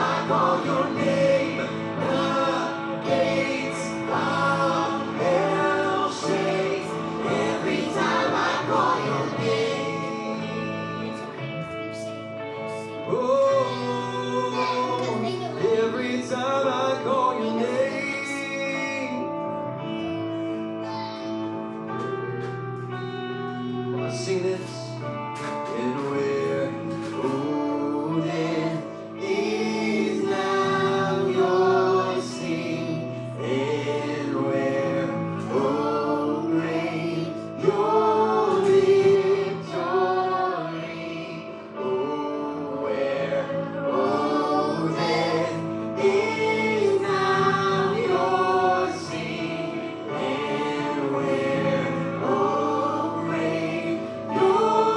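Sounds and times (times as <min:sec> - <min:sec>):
group singing worship music: 0:00.0 - 0:54.9
guitar and band accompaniment: 0:00.0 - 0:54.9.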